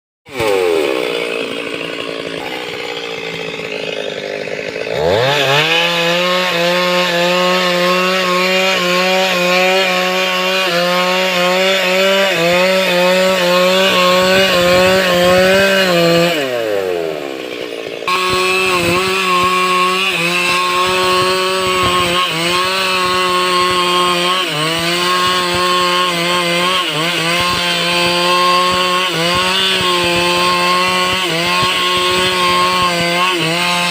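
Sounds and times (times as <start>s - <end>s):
chainsaw cutting wood: 0.3s - 33.9s.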